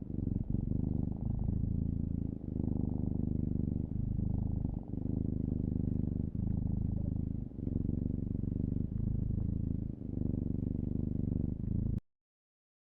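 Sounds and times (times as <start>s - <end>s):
low fluttering purring: 0.0s - 12.0s.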